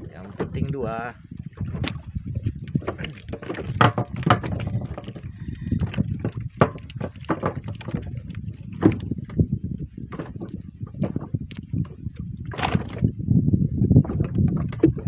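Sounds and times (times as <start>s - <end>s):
knocks and taps in boat: 0.0s - 13.2s, 13.9s - 15.0s
water washing against hull: 0.0s - 15.0s.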